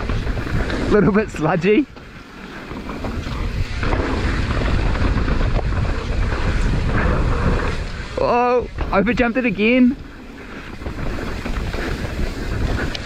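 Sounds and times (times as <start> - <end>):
bike rattling: 0.0 - 13.0
tyres rumbling on dirt: 0.0 - 13.0
wind buffeting microphone: 0.0 - 13.0.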